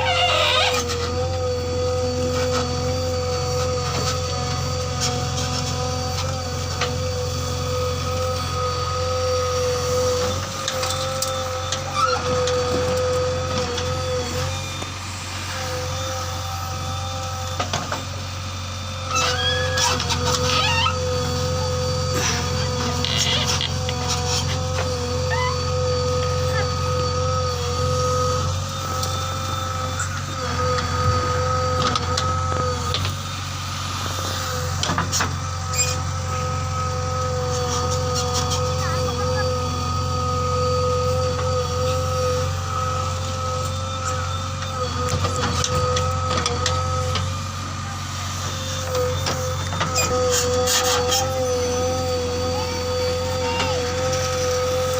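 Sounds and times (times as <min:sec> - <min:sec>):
diesel engine running: 0:00.0 - 0:54.9
high whine: 0:00.0 - 0:54.9.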